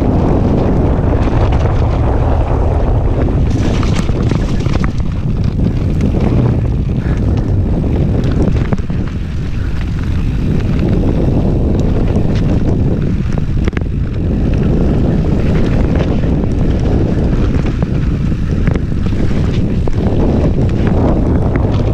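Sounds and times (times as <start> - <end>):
bike rattling over bumps: 0.0 - 21.9
wind buffeting microphone: 0.0 - 21.9.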